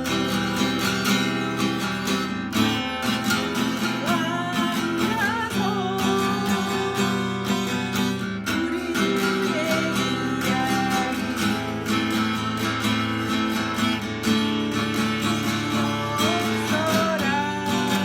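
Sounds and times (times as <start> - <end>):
acoustic guitar strummed in waltz rhythm: 0.0 - 18.0.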